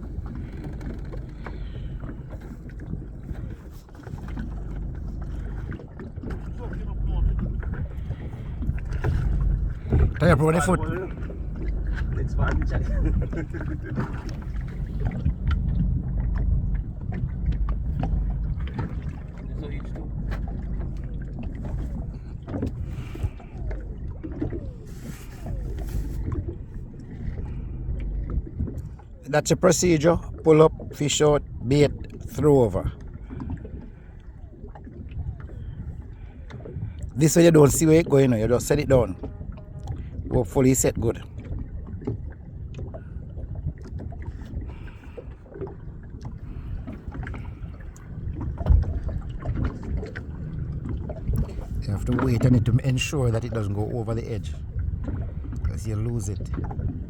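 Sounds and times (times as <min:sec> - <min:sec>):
wind rumbling on microphone: 0:00.0 - 0:29.3, 0:29.9 - 0:57.0
boat engine idling: 0:00.0 - 0:57.0.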